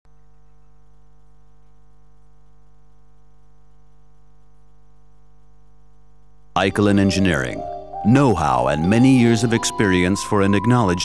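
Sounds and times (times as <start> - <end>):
electrical mains hum: 0.1 - 11.0.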